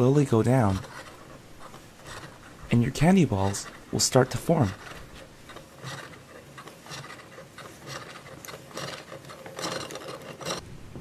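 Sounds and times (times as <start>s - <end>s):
plastic crank scratching: 0.0s - 10.6s.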